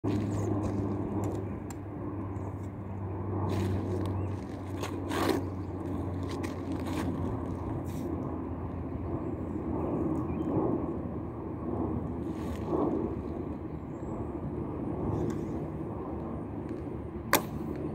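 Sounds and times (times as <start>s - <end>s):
low motor hum: 0.0s - 17.9s.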